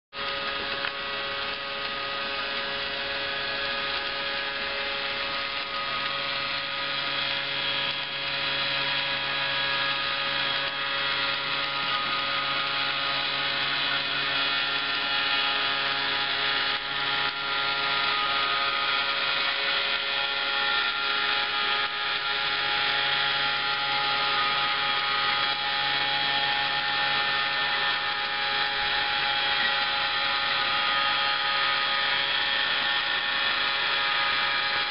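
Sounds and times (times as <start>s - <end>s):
low mechanical hum: 0.2s - 34.9s
small electric motor whine: 0.2s - 34.9s.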